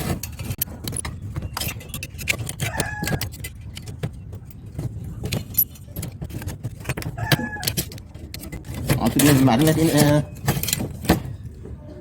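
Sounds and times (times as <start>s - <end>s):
metal parts clinking and knocking: 0.0s - 11.5s.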